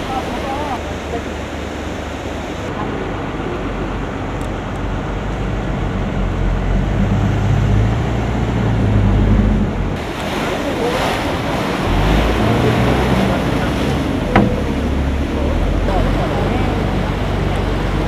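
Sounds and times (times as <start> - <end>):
low engine rumble: 0.0 - 18.0
water rushing and splashing: 0.0 - 18.0.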